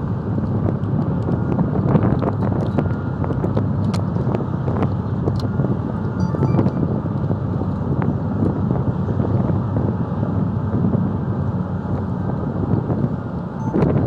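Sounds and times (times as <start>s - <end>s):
boat engine drone: 0.0s - 14.0s
wind buffeting microphone: 0.0s - 14.0s.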